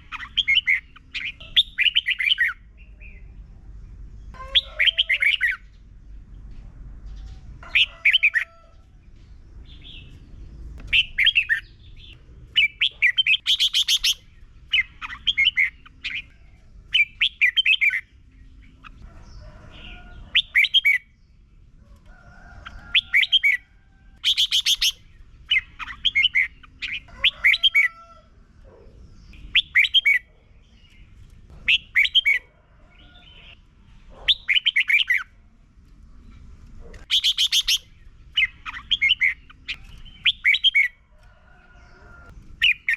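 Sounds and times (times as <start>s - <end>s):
bird singing warbled phrases: 0.0s - 5.9s, 9.7s - 21.6s, 22.6s - 35.4s, 36.2s - 41.1s, 41.7s - 42.9s.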